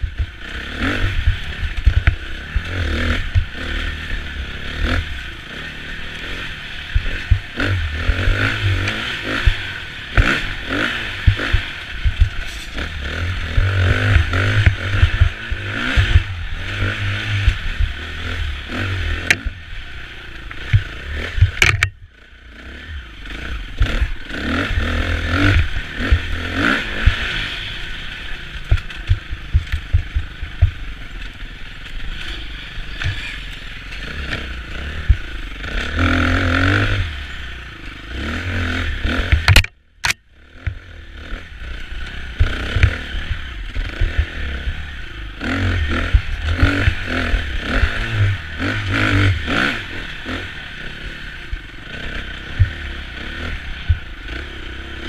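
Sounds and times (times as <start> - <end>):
motorcycle knocks and rattles: 0.0 - 5.3, 6.3 - 19.6, 20.4 - 22.2, 23.7 - 27.5, 28.4 - 36.9, 39.0 - 40.9, 41.6 - 50.4, 51.5 - 55.0
motorcycle engine revving: 0.0 - 55.0.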